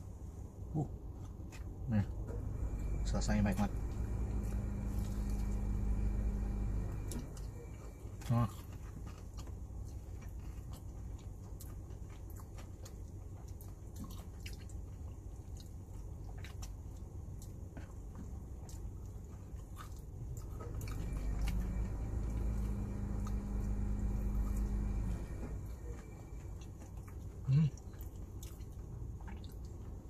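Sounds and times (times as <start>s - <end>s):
low steady hum: 0.0s - 30.0s
chewing and wet mouth sounds: 4.0s - 6.2s, 7.0s - 30.0s.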